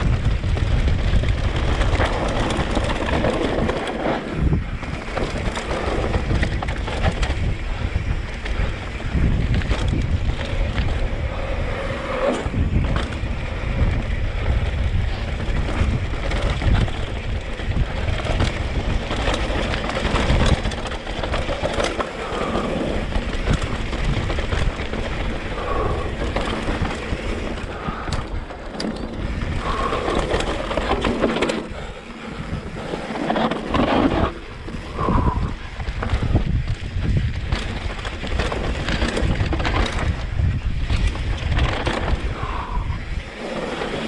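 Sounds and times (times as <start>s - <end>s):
bike rattling over bumps: 0.0s - 44.0s
tyres rolling on dirt: 0.0s - 44.0s
wind noise on microphone: 0.0s - 44.0s.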